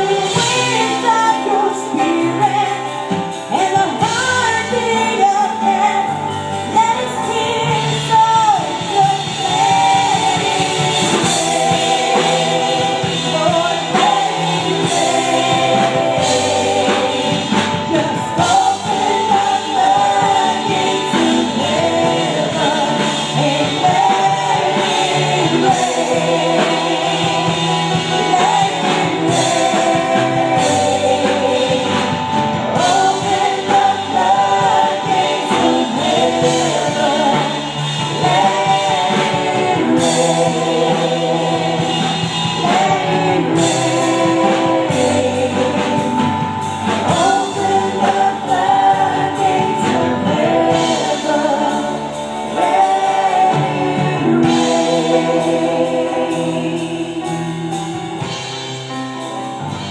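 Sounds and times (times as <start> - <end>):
women singing gospel: 0.0 - 58.7
band with drums: 0.0 - 59.9.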